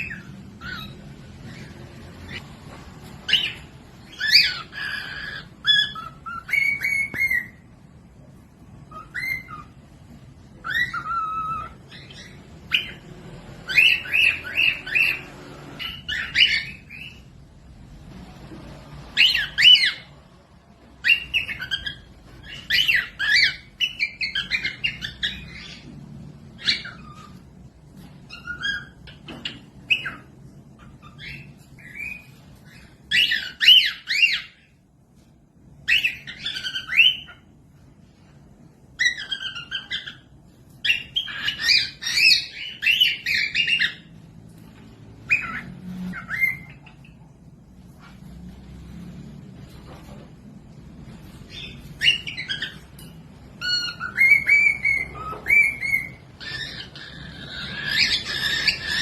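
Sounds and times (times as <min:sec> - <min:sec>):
cockatiels chirping and squawking: 0:00.0 - 0:59.0.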